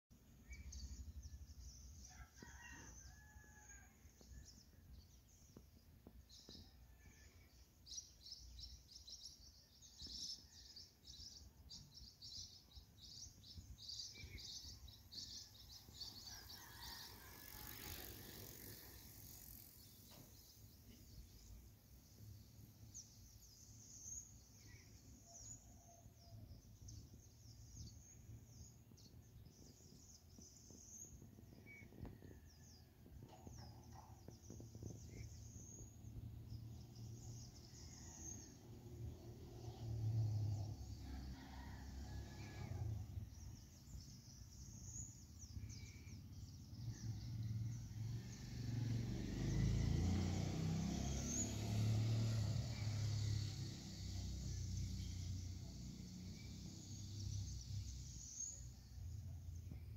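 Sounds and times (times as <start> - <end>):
faint birdsong chirps: 0.1 - 59.9.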